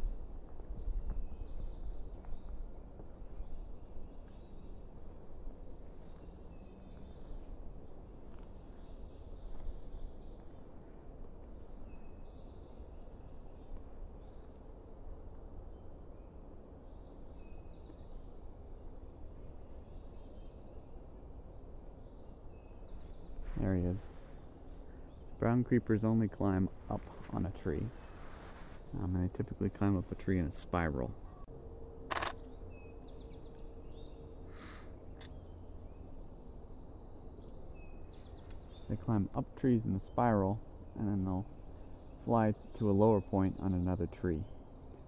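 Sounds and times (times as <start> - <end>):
small birds singing: 0.0 - 18.4, 19.0 - 31.5, 32.1 - 45.0
high sweet birdsong: 0.0 - 45.0
low wind rumble: 0.0 - 45.0.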